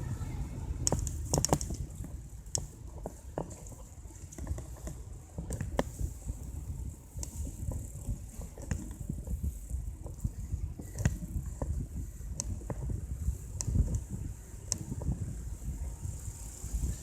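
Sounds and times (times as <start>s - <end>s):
bike clicking and rattling: 0.0s - 17.0s
wind and tyre rumble: 0.0s - 17.0s.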